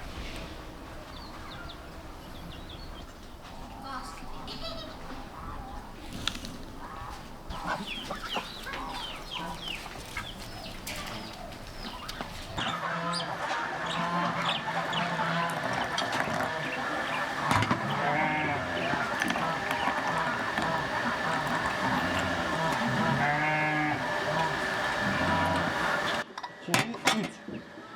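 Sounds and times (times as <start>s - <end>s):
steady low hum: 0.0s - 26.2s
chickens clucking: 0.0s - 26.3s.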